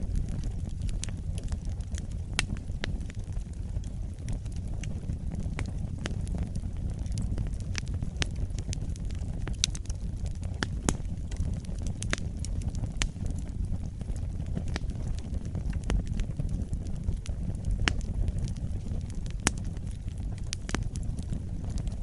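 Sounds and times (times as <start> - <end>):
fire crackling in a fireplace: 0.0 - 22.0.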